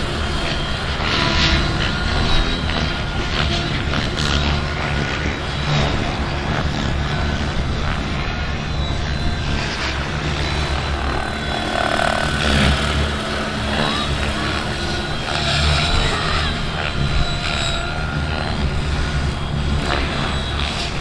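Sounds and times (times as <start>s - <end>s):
model helicopter flying: 0.0s - 21.0s.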